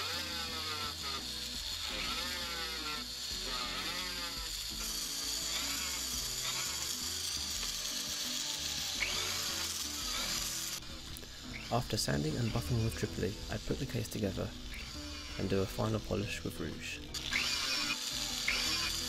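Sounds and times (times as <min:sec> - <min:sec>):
background music: 0:00.0 - 0:19.0
rotary tool grinding whine: 0:00.0 - 0:19.0.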